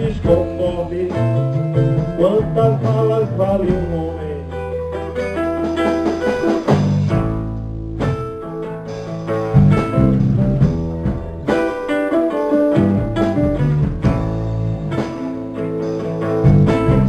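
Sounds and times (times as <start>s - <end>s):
live band playing instrumental: 0.0s - 17.0s.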